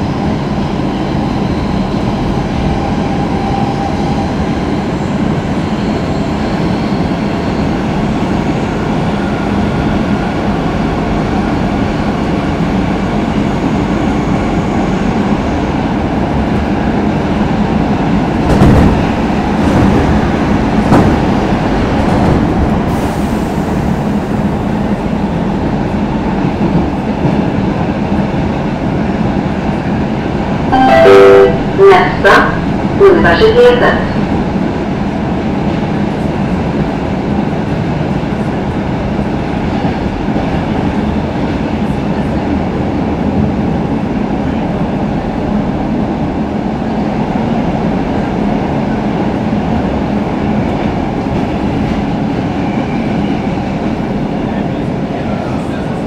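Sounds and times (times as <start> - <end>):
subway car rumble with hum: 0.0 - 56.0.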